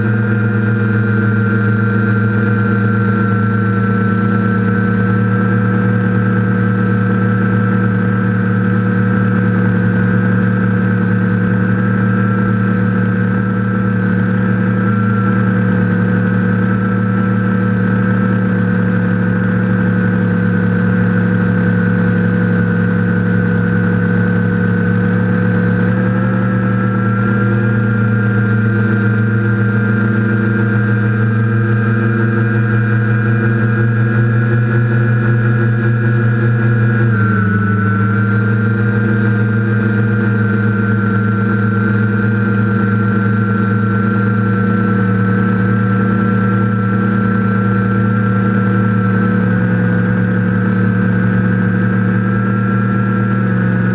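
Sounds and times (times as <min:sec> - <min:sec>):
drone motors humming: 0:00.0 - 0:53.9.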